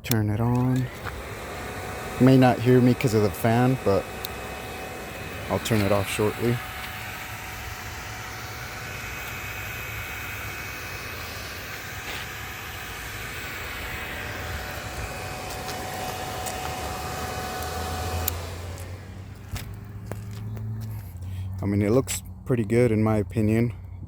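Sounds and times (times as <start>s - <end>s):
cooling fan whirring: 0.0s - 23.7s
low hum: 0.2s - 24.0s.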